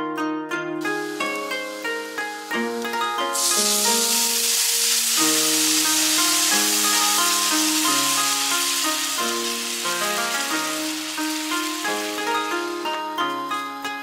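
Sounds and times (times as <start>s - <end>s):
background music melody: 0.0s - 14.0s
water sizzling in hot pan: 0.8s - 14.0s.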